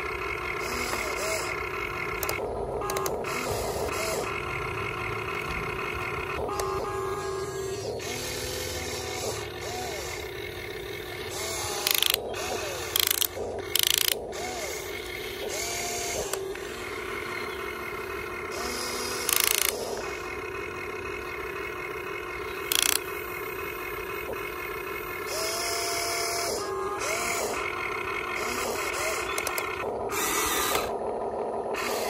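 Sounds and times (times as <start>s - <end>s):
electric motors and gears whining: 0.0s - 32.0s.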